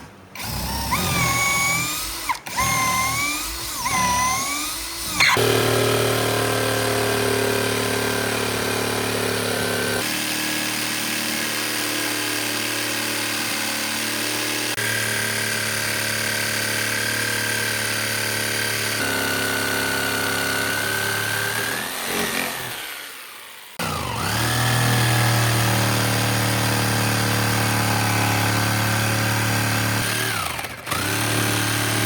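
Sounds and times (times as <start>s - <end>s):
power tool motor whine: 0.4s - 32.0s.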